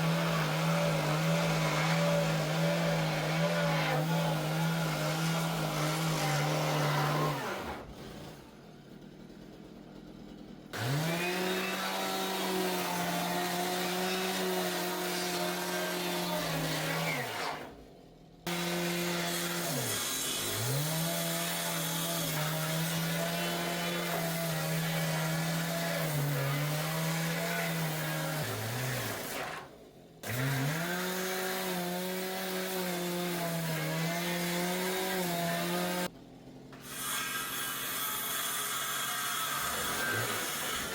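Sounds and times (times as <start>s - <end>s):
electric saw cutting wood: 0.0s - 9.0s, 10.3s - 40.9s.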